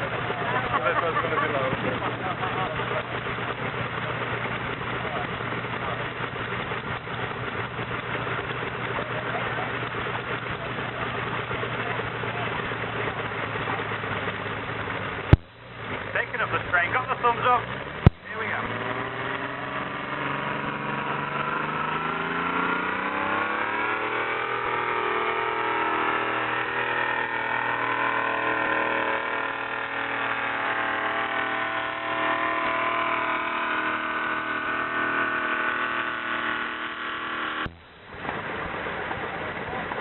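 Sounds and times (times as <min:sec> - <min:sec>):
tractor diesel engine revving: 0:00.0 - 0:40.0.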